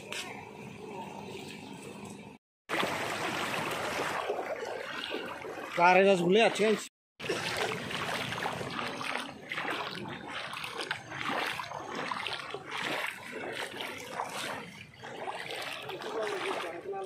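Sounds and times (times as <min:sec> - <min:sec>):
floodwater flowing and splashing: 0:02.7 - 0:17.0.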